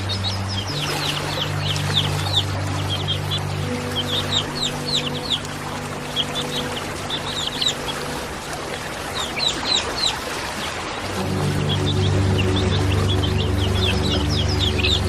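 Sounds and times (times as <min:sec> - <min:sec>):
birds chirping: 0:00.0 - 0:15.0
falling water rushing: 0:00.0 - 0:15.0
low steady hum: 0:00.0 - 0:15.0.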